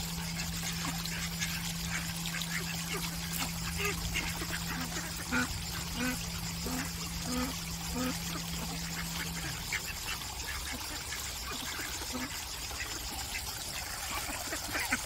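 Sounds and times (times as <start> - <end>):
water trickling: 0.0 - 15.0
ducks quacking: 0.3 - 15.0.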